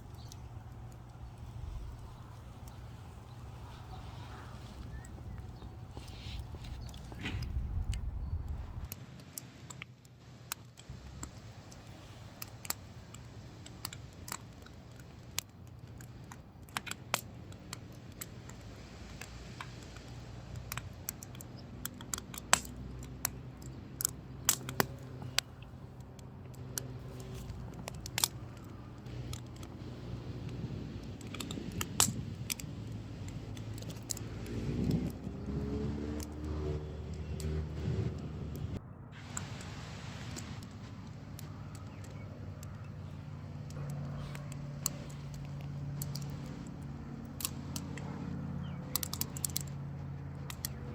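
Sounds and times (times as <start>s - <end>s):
vehicle engine hum: 0.0s - 9.0s, 10.9s - 50.9s
wood fire crackling: 0.0s - 50.9s.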